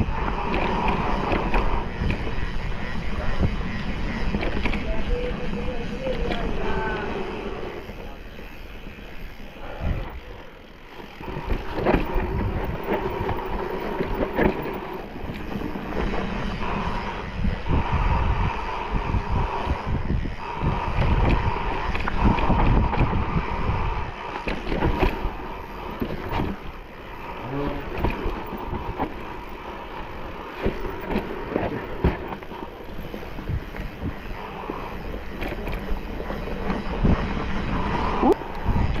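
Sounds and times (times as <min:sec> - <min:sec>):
bike knocking and rattling: 0:00.0 - 0:39.0
wind rushing across microphone: 0:00.0 - 0:39.0.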